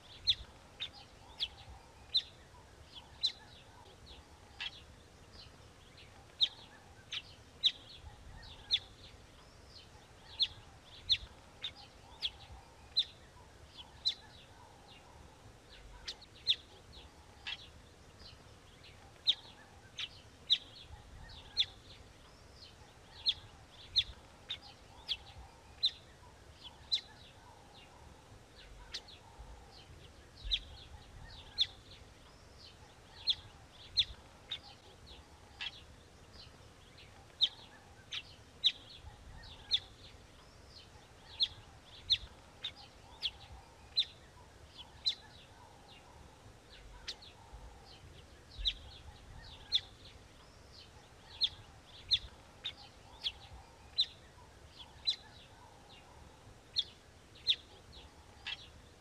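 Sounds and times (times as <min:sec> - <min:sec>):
soft low bird calls: 0:00.0 - 0:59.0
songbird sharp chirps: 0:00.0 - 0:59.0.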